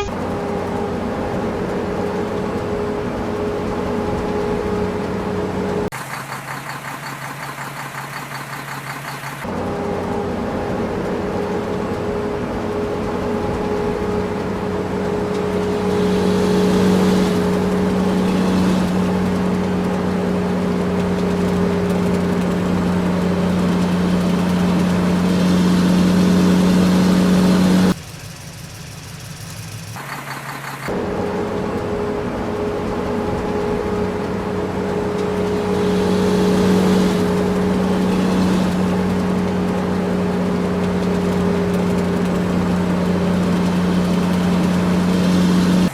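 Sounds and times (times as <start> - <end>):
heavy machinery diesel engine: 0.0 - 45.9.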